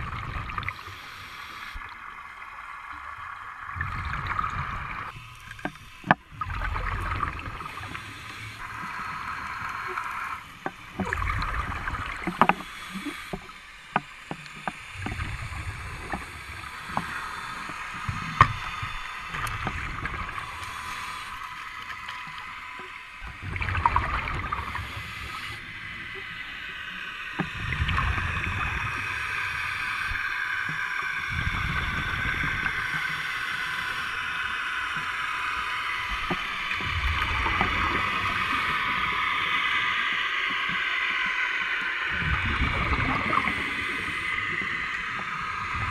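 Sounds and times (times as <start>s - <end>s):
steady underwater hiss: 0.0s - 45.9s.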